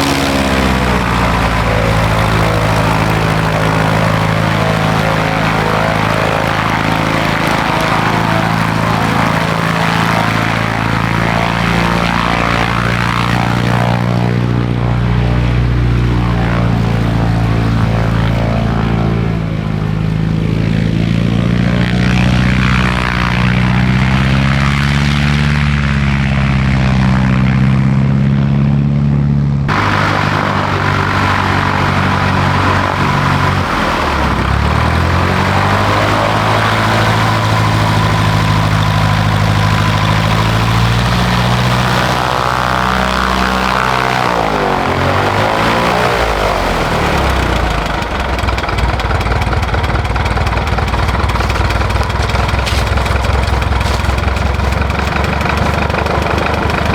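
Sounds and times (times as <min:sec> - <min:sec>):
small plane engine and propeller: 0:00.0 - 0:56.9.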